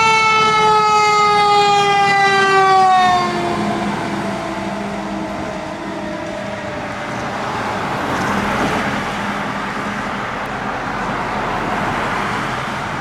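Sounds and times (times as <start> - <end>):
fire truck driving past: 0.0 - 13.0.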